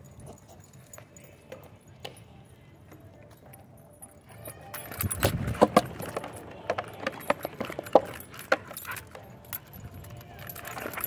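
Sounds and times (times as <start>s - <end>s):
metallic jingling clicks: 0.0s - 11.0s.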